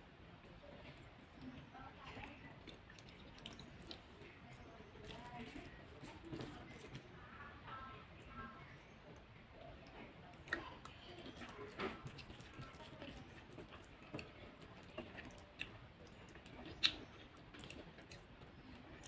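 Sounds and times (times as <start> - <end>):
chewing and wet squishing: 0.2 - 19.0.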